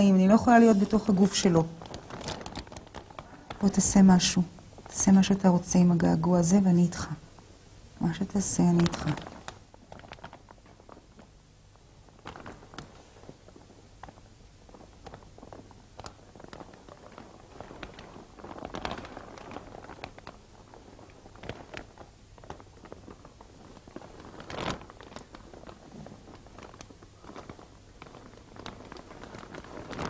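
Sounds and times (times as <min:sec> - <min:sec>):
plastic bag crinkling and rustling: 0:00.0 - 0:07.2, 0:08.0 - 0:30.0.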